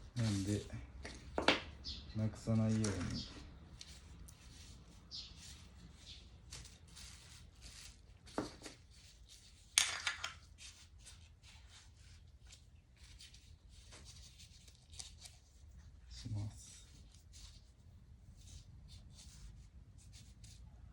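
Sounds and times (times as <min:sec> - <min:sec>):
rustling and scraping of parts: 0:00.0 - 0:20.7.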